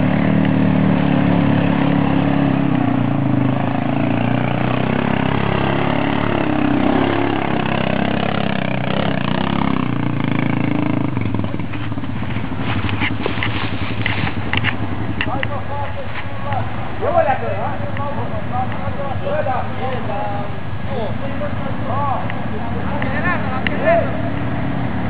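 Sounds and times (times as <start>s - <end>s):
quad bike engine under load: 0.0s - 25.0s.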